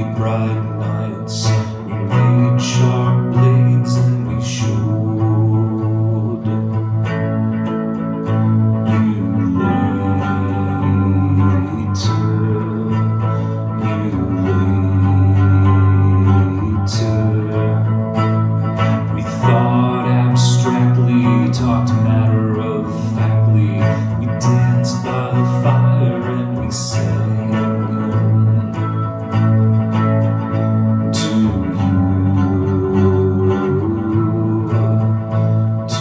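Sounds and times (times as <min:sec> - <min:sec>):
electric guitar song: 0:00.0 - 0:36.0
strummed guitar chords: 0:00.0 - 0:36.0
sustained low notes: 0:00.0 - 0:36.0.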